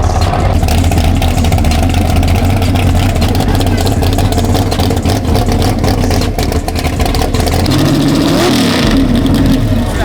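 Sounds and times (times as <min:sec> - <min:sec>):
car engine rumbling and revving: 0:00.0 - 0:10.0
exhaust crackle: 0:00.0 - 0:10.0.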